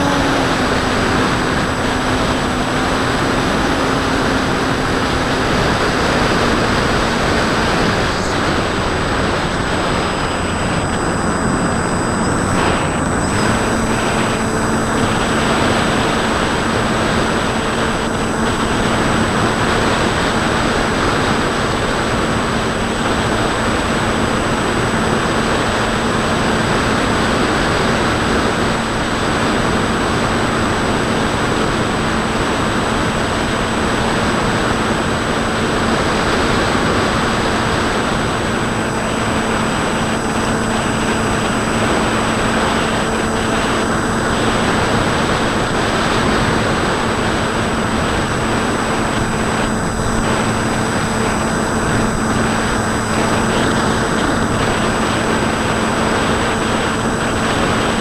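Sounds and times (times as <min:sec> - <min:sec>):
electric motor and propeller hum: 0:00.0 - 0:58.0
wind rush over microphone: 0:00.0 - 0:58.0.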